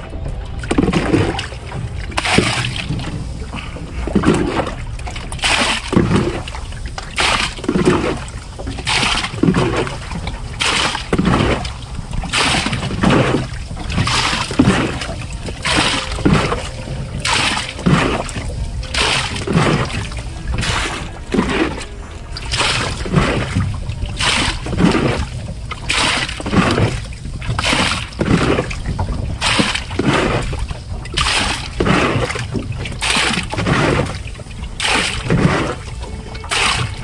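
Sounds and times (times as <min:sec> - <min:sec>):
jug scooping in metal hull: 0:00.0 - 0:37.0
water splashing overboard: 0:00.0 - 0:37.0.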